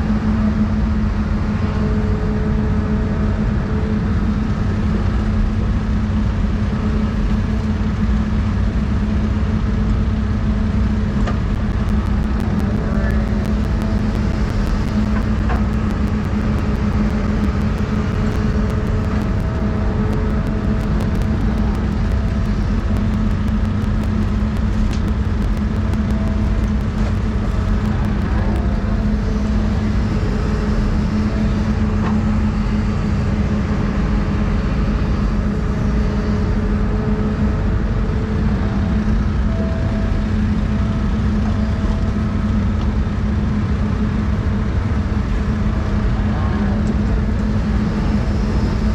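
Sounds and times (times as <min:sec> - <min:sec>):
excavator diesel engine running: 0:00.0 - 0:48.9
high-pitched whine: 0:00.0 - 0:48.9.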